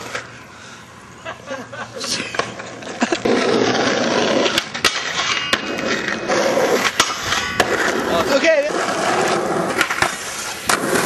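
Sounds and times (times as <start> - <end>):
skateboard wheels rolling on asphalt: 0.0 - 11.0
skateboard clicks and knocks: 2.0 - 11.0.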